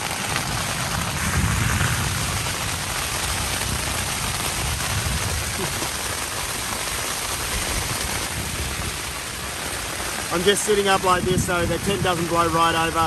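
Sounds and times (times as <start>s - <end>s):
rain beating on tent fabric: 0.0s - 13.0s
wind gusts buffeting tent: 0.0s - 13.0s.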